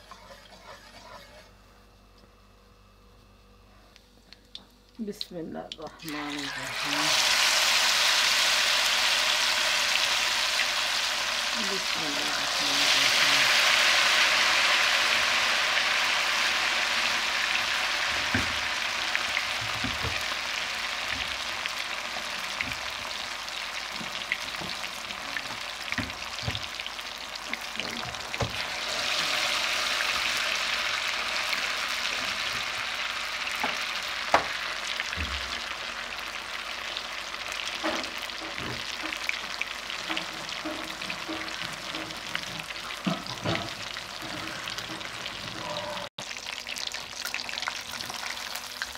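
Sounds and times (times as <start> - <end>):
oil popping and crackling: 4.3 - 45.5
fish sizzling in hot oil: 6.0 - 48.9.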